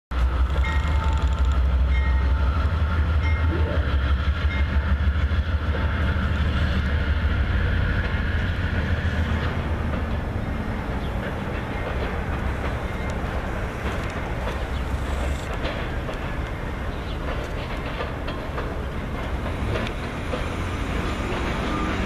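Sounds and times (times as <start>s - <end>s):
diesel locomotive rumble: 0.1s - 22.0s
train cars rolling: 0.1s - 22.0s.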